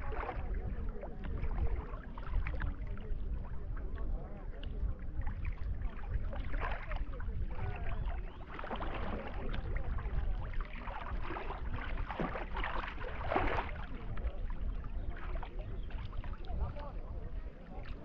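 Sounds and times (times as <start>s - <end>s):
water sloshing and splashing: 0.0s - 18.0s
wind rumble on microphone: 0.0s - 18.0s.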